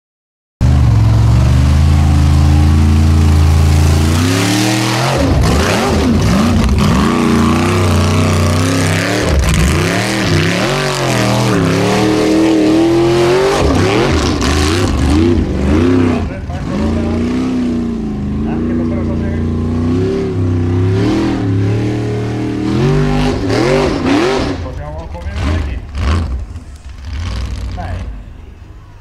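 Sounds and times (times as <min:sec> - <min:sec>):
buggy engine revving: 0:00.6 - 0:29.0.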